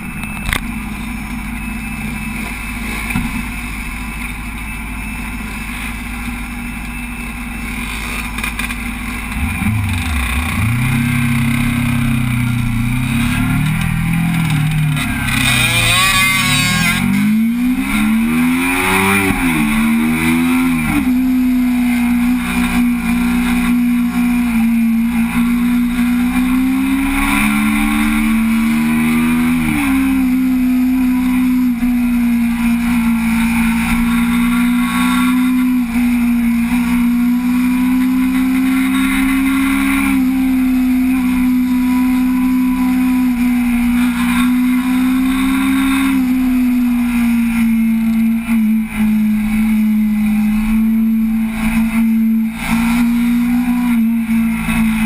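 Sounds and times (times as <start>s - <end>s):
motorcycle engine revving: 5.2s - 55.0s.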